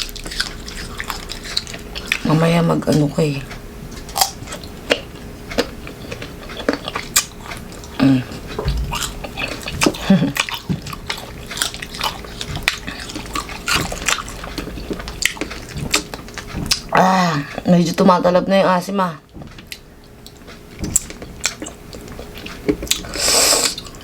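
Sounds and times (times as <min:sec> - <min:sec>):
mango crunching and chewing: 0:00.0 - 0:03.1, 0:03.9 - 0:17.6, 0:19.6 - 0:24.0.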